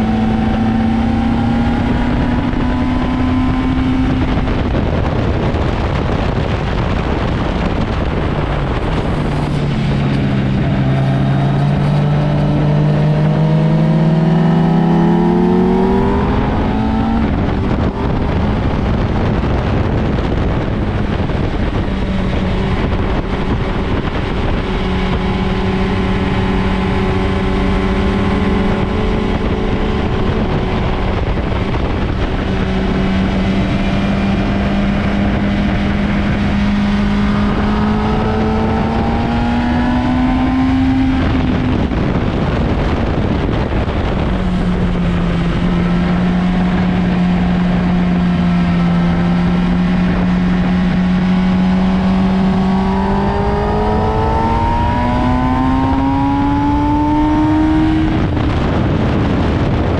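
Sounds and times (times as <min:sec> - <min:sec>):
motorcycle engine running at speed: 0:00.0 - 0:59.9
wind rushing: 0:00.0 - 0:59.9.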